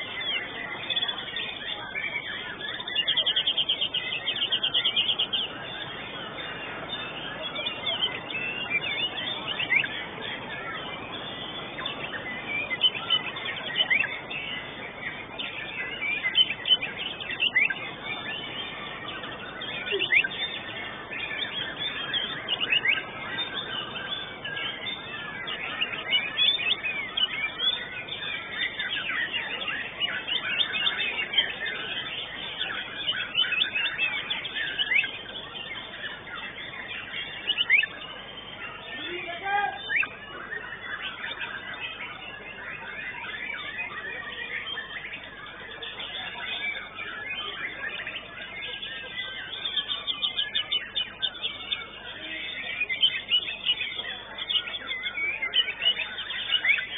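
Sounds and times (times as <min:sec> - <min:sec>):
songbird chirping and whistling: 0:00.0 - 0:56.9.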